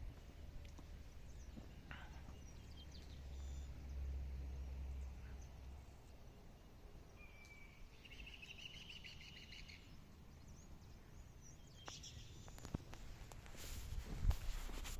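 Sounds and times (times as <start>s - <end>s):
faint birdsong: 0.0s - 13.7s.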